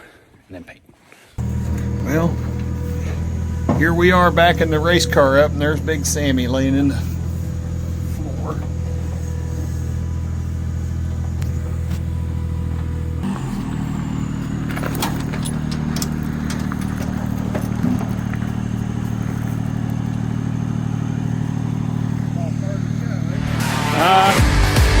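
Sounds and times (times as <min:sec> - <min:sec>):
light clattering: 0:01.4 - 0:23.7
car engine running: 0:01.4 - 0:25.0
vehicle rattles: 0:01.4 - 0:25.0.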